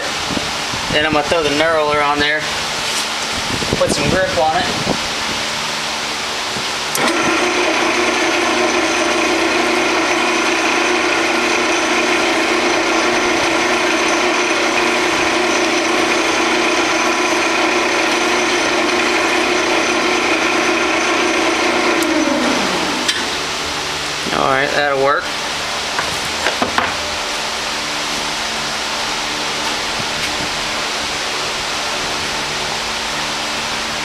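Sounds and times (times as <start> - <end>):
bench lathe motor whine: 5.0 - 34.0.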